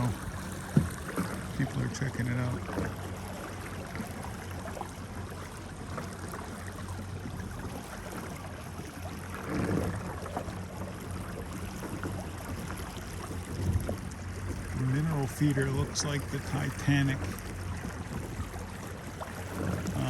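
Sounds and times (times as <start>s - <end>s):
boat motor hum: 0.0s - 20.0s
water washing: 0.0s - 20.0s.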